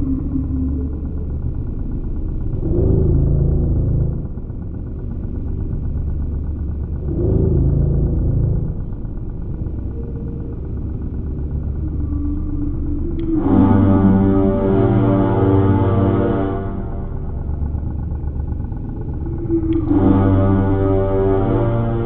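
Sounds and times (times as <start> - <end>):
wavering ambient tone: 0.0 - 5.5, 6.3 - 22.0
deep rumbling drone: 0.0 - 22.0.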